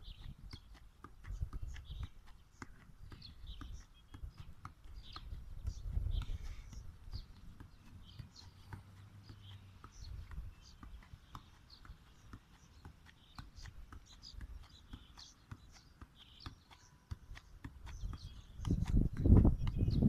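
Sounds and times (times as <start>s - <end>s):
soft taps of football: 0.0s - 20.0s.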